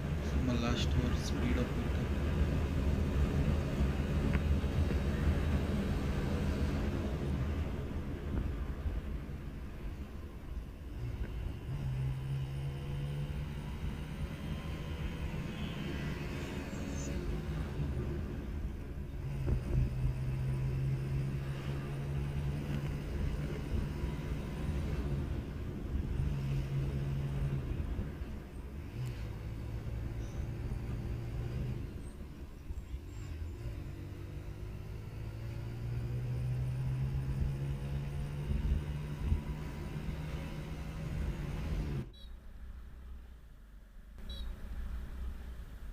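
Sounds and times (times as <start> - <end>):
wind and road rumble: 0.0 - 45.9.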